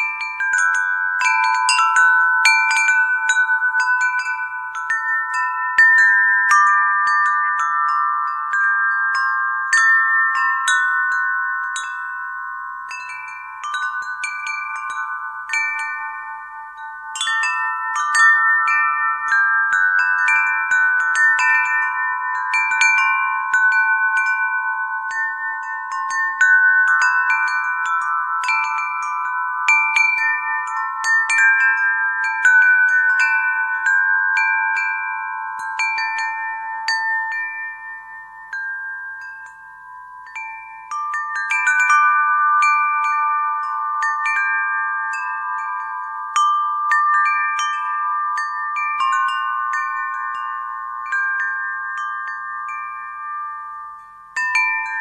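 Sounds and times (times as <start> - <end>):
wind chimes ringing: 0.0 - 55.0.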